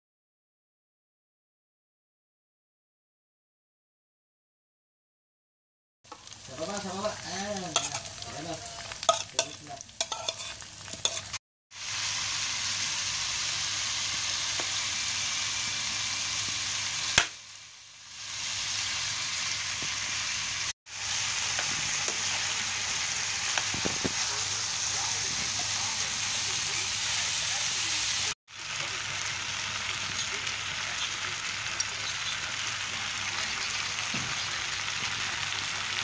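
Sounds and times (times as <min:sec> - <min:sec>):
vegetables sizzling in oil: 0:06.1 - 0:36.0.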